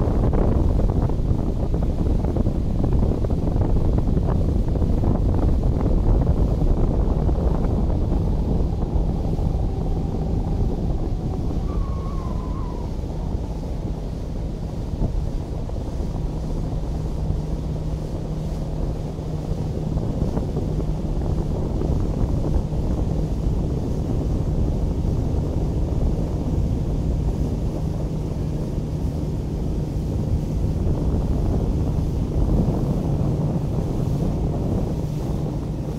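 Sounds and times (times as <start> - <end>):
speedboat engine running: 0.0 - 35.9
wind noise on microphone: 0.0 - 35.9.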